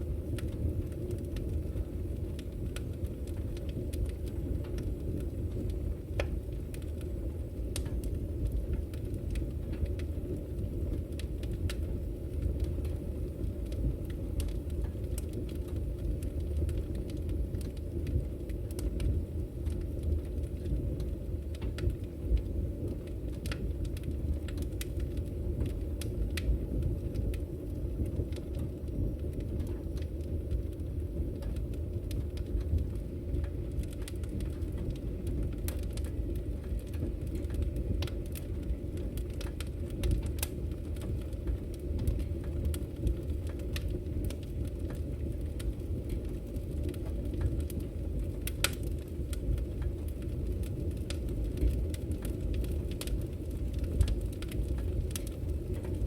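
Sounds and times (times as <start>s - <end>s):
firewood crackling and popping: 0.0s - 56.0s
low fire rumble: 0.0s - 56.0s.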